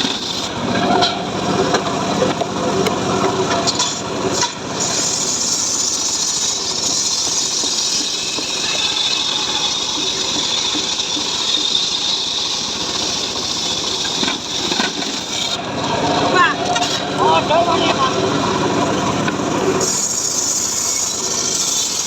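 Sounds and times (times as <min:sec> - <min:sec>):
sawmill saw cutting log: 0:00.0 - 0:22.0.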